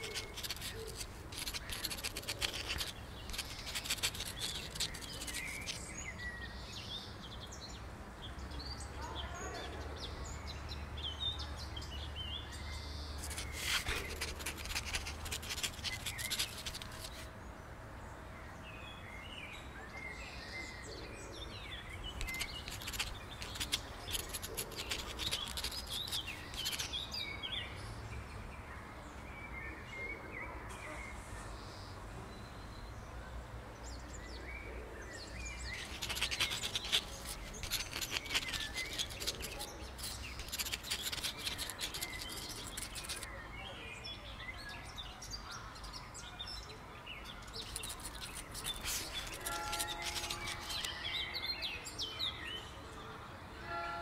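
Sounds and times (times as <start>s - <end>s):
birds chirping: 0.0s - 17.6s, 18.8s - 28.2s, 33.8s - 52.8s
faint outdoor background: 0.0s - 54.0s.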